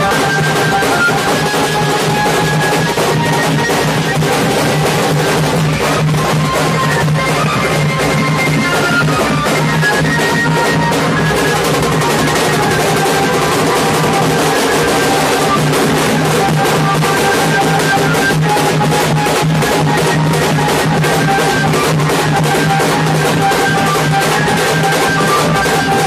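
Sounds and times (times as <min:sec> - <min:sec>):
drum group playing fast beat: 0:00.0 - 0:26.0
high melody line: 0:00.0 - 0:26.0.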